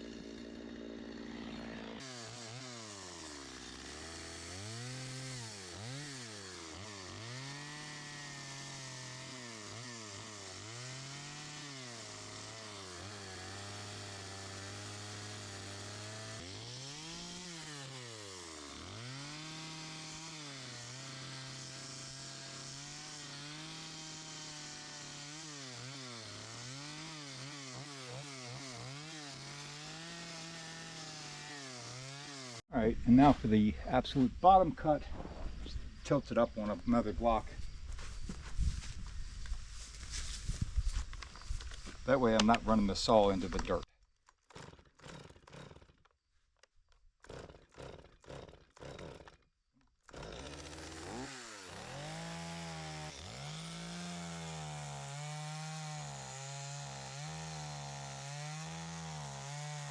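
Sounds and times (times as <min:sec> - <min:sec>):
chainsaw cutting wood: 0:00.0 - 0:32.6, 0:36.5 - 0:59.9.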